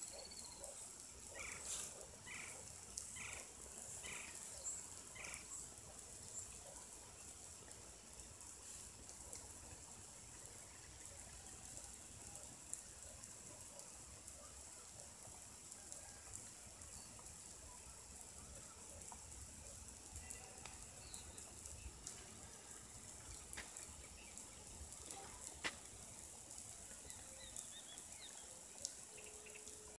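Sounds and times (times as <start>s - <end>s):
water spraying from sprinklers: 0.0s - 30.0s.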